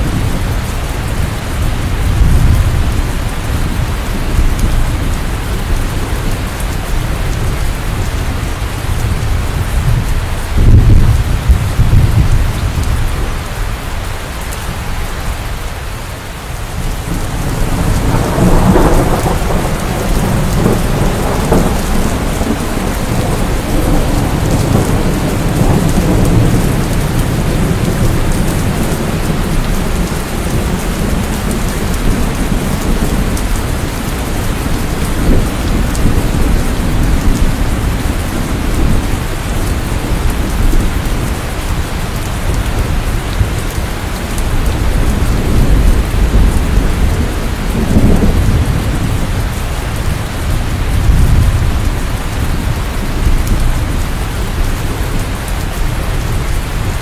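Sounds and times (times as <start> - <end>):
rolling thunder: 0.0 - 13.6, 16.6 - 57.0
steady rain: 0.0 - 57.0.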